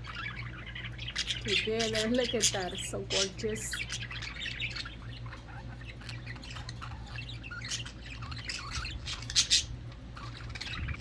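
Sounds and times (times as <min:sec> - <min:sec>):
budgerigars chirping and warbling: 0:00.0 - 0:11.0
steady low hum: 0:00.0 - 0:11.0.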